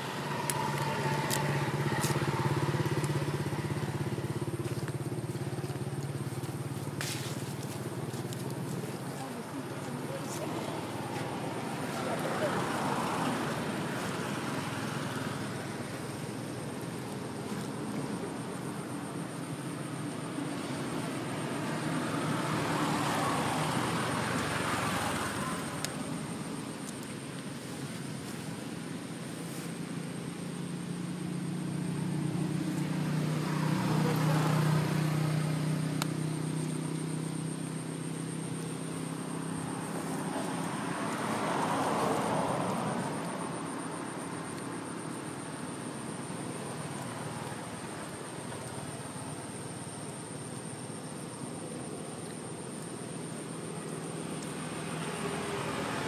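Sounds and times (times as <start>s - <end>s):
vehicle passing: 0.0s - 26.8s, 29.3s - 49.7s, 53.2s - 56.0s.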